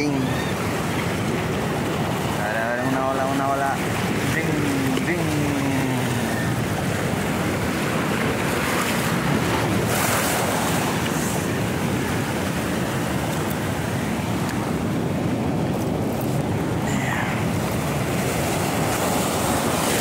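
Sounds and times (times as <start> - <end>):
surf breaking over rocks: 0.0 - 20.0.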